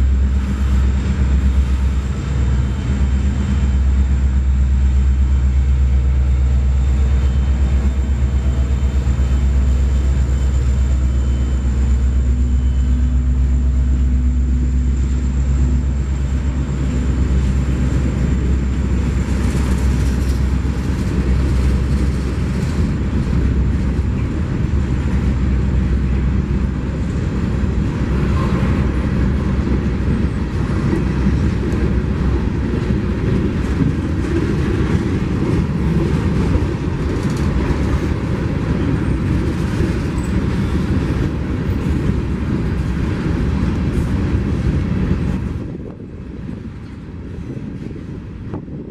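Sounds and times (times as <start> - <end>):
diesel locomotive engine rumble: 0.0 - 48.9
railcars clattering past: 0.0 - 48.9.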